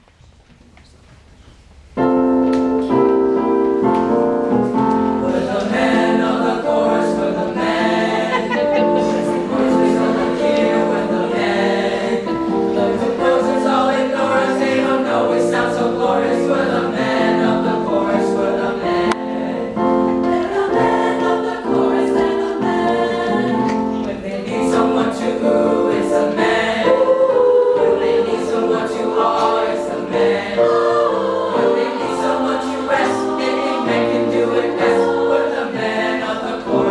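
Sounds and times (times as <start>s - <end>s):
choir singing in harmony: 2.1s - 36.9s.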